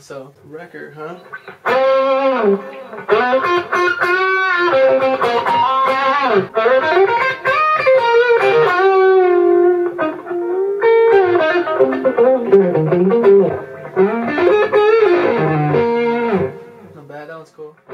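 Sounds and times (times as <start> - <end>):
electric guitar lead line: 1.1 - 17.0.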